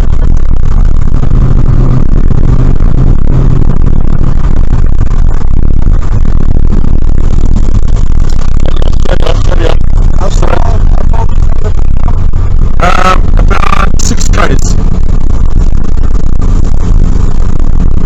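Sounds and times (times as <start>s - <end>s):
car engine hum: 0.0s - 18.0s
road noise inside car: 0.0s - 18.0s.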